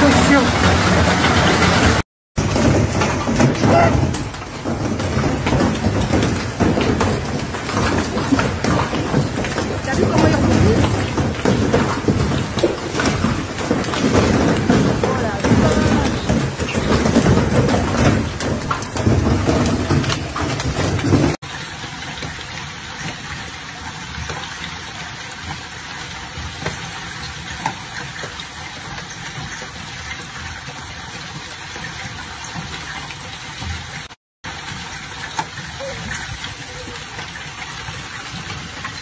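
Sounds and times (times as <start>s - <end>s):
hailstones hitting hard surfaces: 0.0s - 32.9s
hail and rain pelting: 0.0s - 39.0s.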